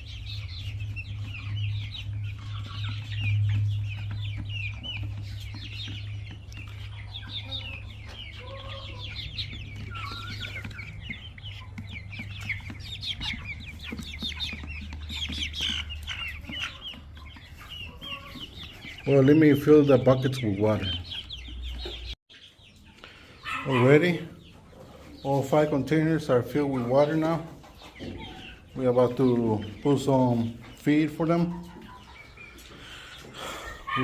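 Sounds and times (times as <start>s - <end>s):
young chickens peeping and clucking: 0.0s - 34.0s.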